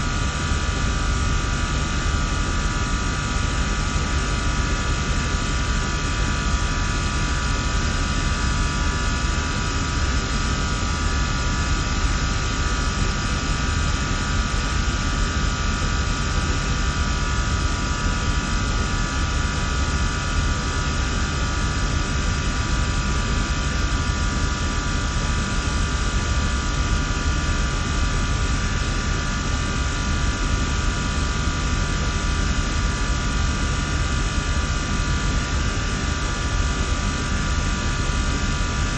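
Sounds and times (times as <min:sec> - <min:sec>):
machine hum with steady tones: 0:00.0 - 0:38.9
rushing fan noise: 0:00.0 - 0:38.9.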